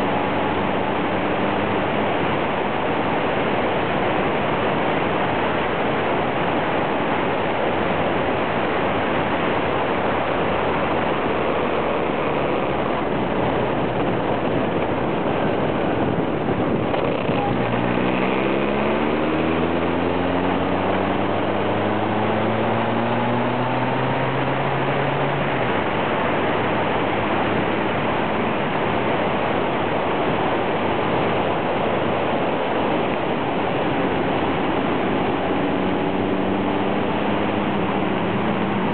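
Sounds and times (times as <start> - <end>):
motorcycle engine accelerating: 0.0 - 38.9
road noise: 0.0 - 38.9
wind rush on microphone: 0.0 - 38.9.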